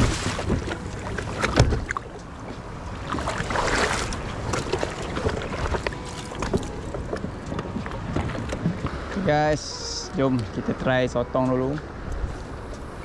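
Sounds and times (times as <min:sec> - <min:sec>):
waves lapping against kayak hull: 0:00.0 - 0:13.0.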